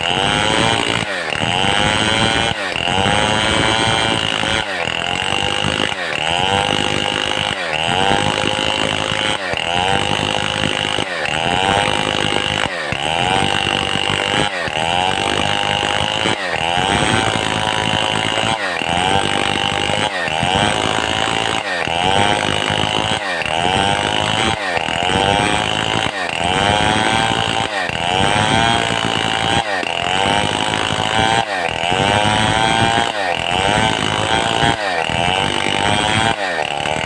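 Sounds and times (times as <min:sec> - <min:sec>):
chainsaw running hard: 0:00.0 - 0:37.0.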